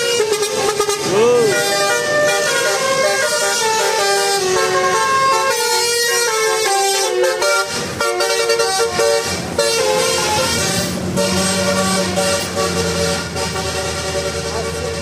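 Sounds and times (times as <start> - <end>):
air horns playing a tune: 0.0 - 15.0
low steady horn tone: 0.0 - 15.0.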